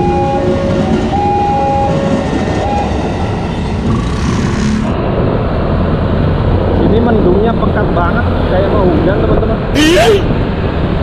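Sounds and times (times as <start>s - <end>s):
electric train rumbling past: 0.0s - 11.0s.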